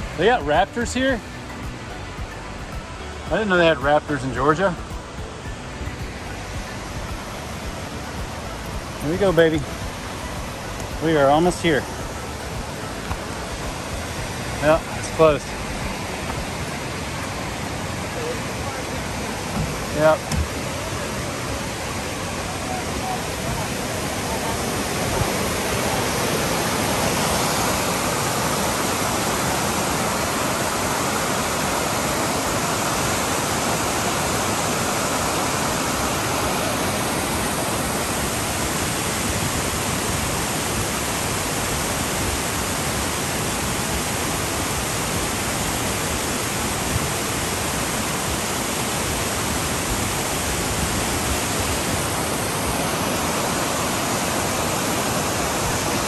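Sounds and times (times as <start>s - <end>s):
creek rushing over boulders: 0.0s - 56.0s.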